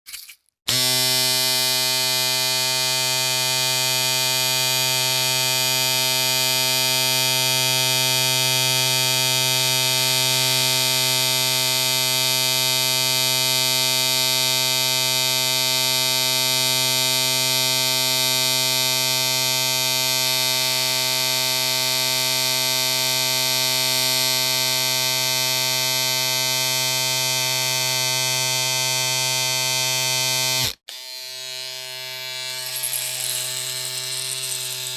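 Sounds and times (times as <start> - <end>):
electric shaver buzzing: 0.7 - 34.9.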